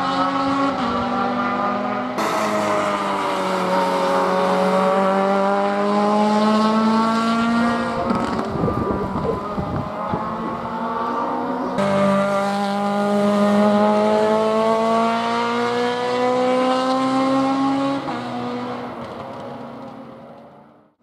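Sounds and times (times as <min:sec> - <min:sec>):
race car engine accelerating: 0:00.0 - 0:20.3.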